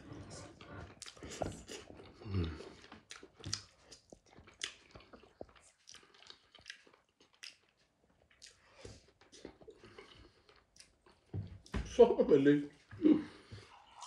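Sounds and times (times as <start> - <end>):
faint chewing and lip-smacking: 0.0 - 11.4.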